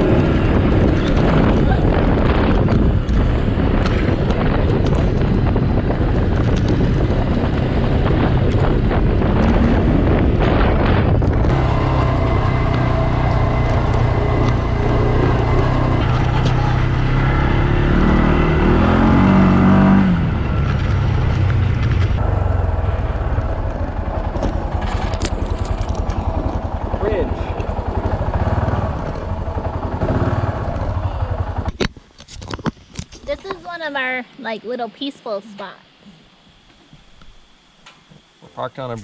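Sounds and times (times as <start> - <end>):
atv engine running: 0.0 - 31.9
wind on microphone: 0.0 - 33.6.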